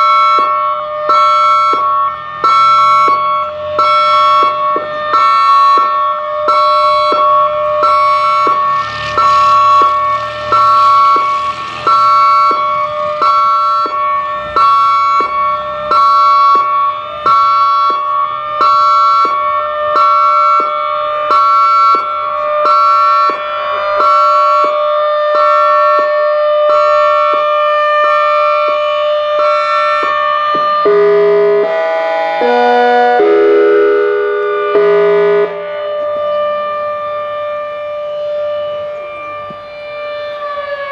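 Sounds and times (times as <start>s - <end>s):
pulsed warning siren tone: 0.0s - 40.9s.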